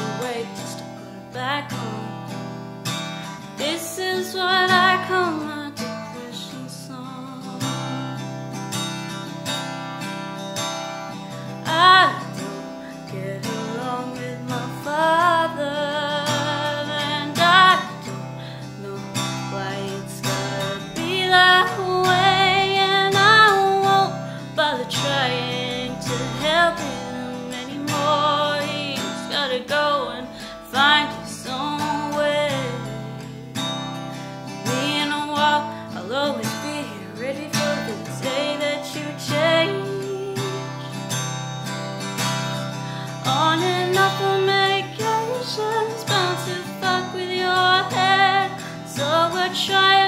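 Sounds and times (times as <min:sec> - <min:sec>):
woman singing with vibrato: 0:00.0 - 0:02.4, 0:03.6 - 0:08.3, 0:11.6 - 0:33.8, 0:34.5 - 0:41.2, 0:43.0 - 0:50.0
acoustic guitar strumming: 0:00.0 - 0:50.0.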